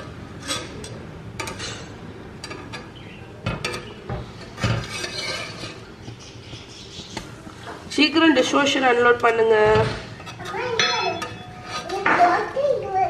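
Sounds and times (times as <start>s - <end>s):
metal kitchenware clanks: 0.0s - 6.5s, 8.4s - 12.6s
metal spatula scraping pan: 0.0s - 6.5s, 8.5s - 12.5s.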